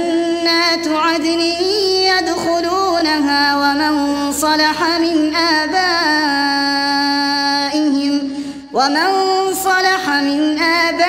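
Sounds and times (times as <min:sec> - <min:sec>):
person chanting melodically: 0:00.0 - 0:11.0.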